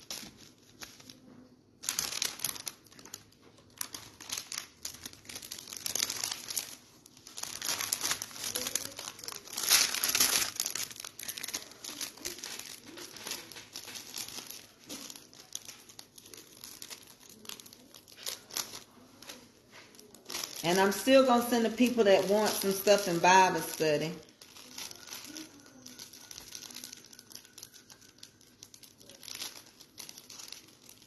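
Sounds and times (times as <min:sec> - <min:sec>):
plastic bag crinkling: 0:00.0 - 0:31.0.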